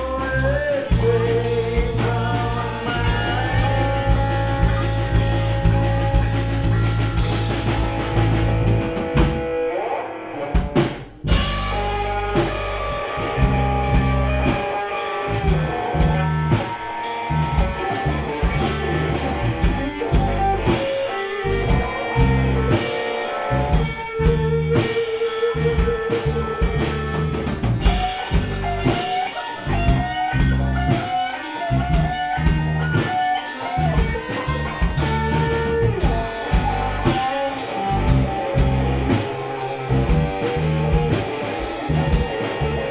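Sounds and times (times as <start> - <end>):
drum kit: 0.0 - 9.8, 10.5 - 42.9
bass guitar: 0.0 - 42.9
electric guitar: 0.0 - 42.9
live rock band playing: 0.0 - 42.9.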